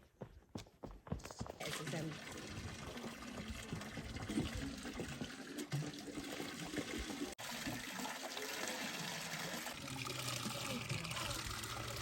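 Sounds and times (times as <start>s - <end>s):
water running and trickling: 1.6s - 12.0s.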